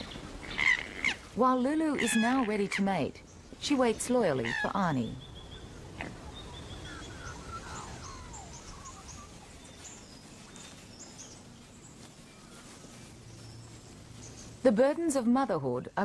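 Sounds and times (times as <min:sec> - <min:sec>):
birds chirping: 0:00.0 - 0:16.0
low background hiss: 0:00.0 - 0:16.0.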